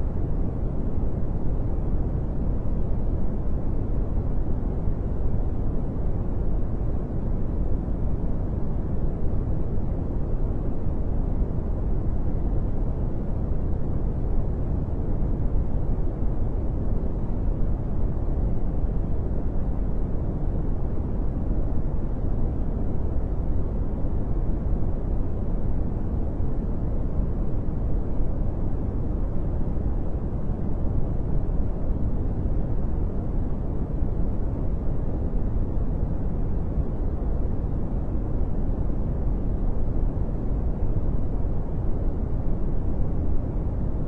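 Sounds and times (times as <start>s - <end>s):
brown noise hiss: 0.0s - 44.0s.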